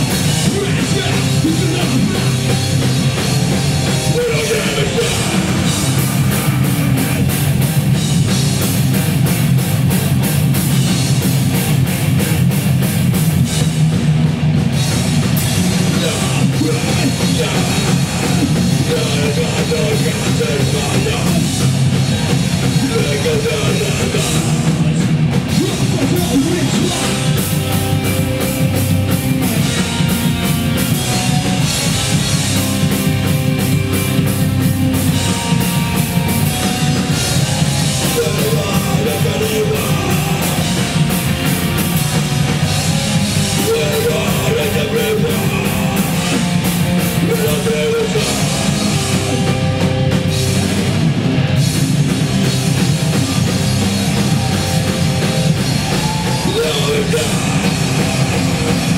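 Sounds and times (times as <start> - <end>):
bass guitar: 0.0 - 58.9
distorted guitars: 0.0 - 58.9
fast drums with crashing cymbals: 0.0 - 58.9.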